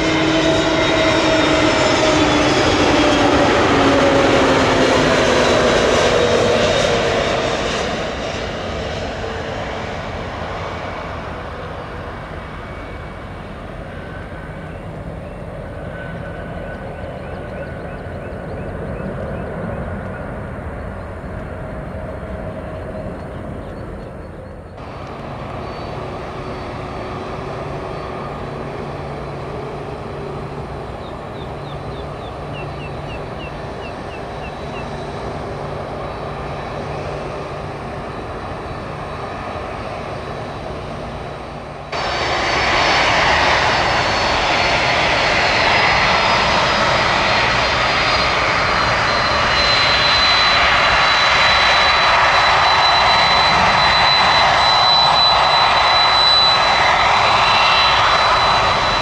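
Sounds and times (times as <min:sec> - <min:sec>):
jet engine rush and whine: 0:00.0 - 0:59.0
jet engines humming: 0:00.0 - 0:59.0.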